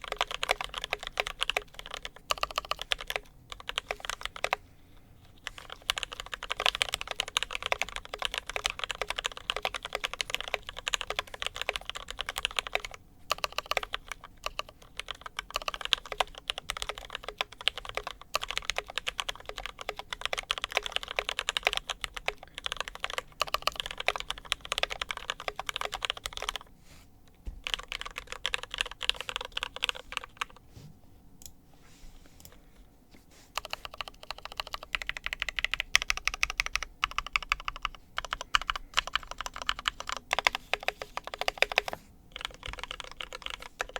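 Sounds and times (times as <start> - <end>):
mechanical keyboard typing: 0.0 - 4.6, 5.4 - 26.7, 27.6 - 30.6, 33.6 - 43.9.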